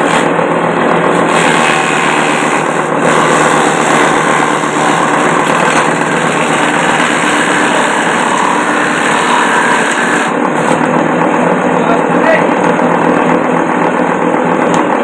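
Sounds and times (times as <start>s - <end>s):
electric motor running: 0.0s - 15.0s.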